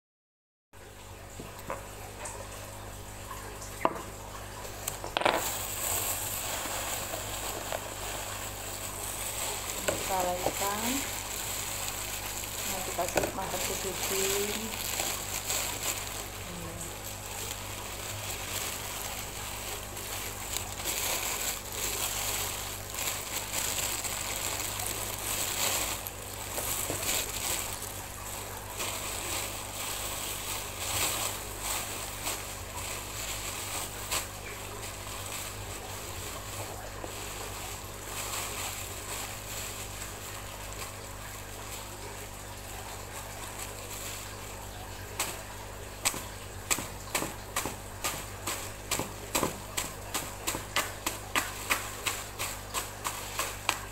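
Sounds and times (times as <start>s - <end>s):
plastic bag rustling and crinkling: 3.3s - 53.9s.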